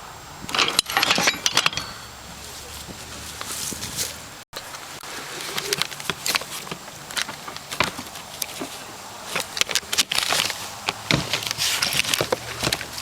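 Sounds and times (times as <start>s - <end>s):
handling noise: 0.4s - 13.0s
footsteps: 1.8s - 13.0s.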